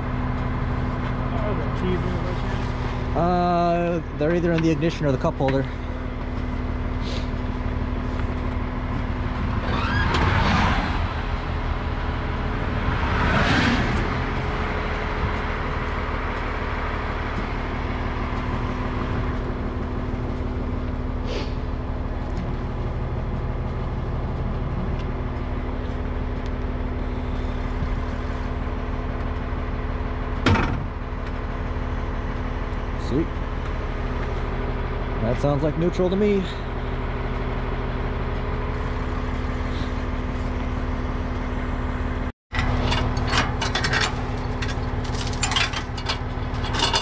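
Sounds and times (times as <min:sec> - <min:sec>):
truck engine idling: 0:00.0 - 0:13.3, 0:13.9 - 0:47.0.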